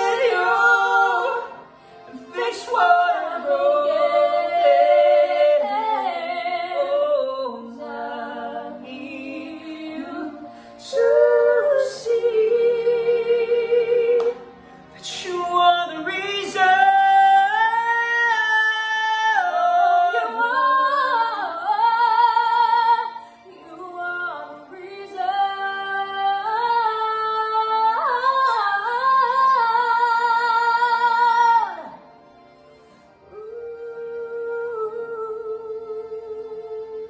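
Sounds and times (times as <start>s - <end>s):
man and woman singing duet: 0.0s - 14.4s, 15.0s - 31.9s.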